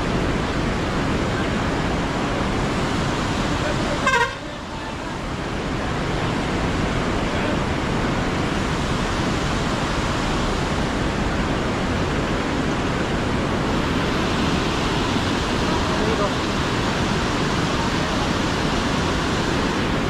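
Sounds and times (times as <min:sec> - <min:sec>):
white-water river rushing: 0:00.0 - 0:20.0.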